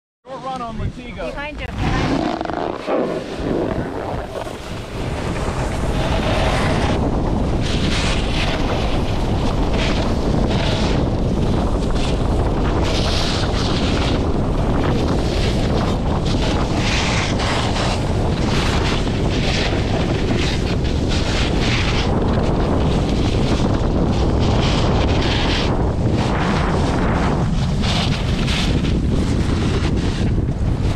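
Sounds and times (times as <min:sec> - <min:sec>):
wind buffeting microphone: 0:00.6 - 0:30.9
ski edges scraping packed snow: 0:01.0 - 0:30.9.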